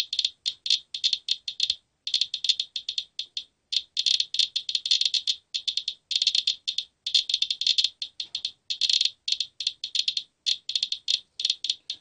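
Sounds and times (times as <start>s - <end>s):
geiger counter clicking fast: 0.0s - 12.0s.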